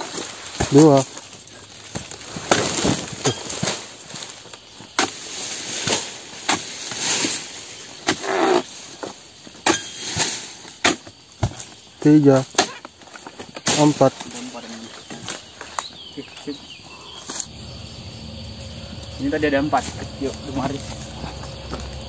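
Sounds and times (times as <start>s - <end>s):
fronds rustling: 0.0s - 22.0s.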